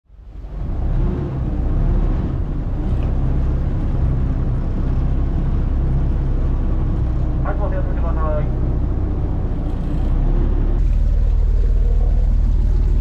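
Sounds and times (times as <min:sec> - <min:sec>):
boat engine running: 0:00.1 - 0:13.0
water rushing along hull: 0:00.1 - 0:13.0.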